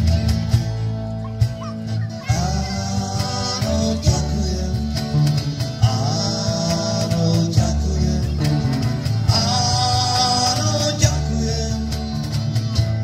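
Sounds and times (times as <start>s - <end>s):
electric guitars: 0.0s - 13.0s
steady drum beat: 0.0s - 13.0s
strummed acoustic guitar: 0.0s - 13.0s
person singing: 2.0s - 12.8s.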